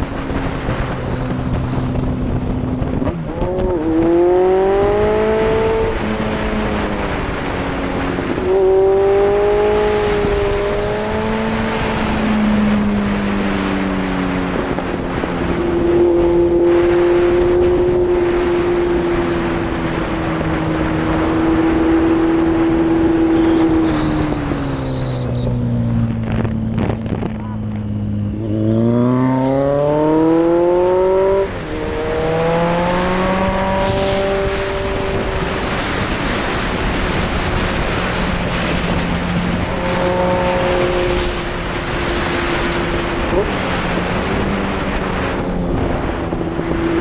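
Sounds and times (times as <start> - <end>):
motorcycle engine revving: 0.0 - 47.0
wind noise: 0.0 - 47.0.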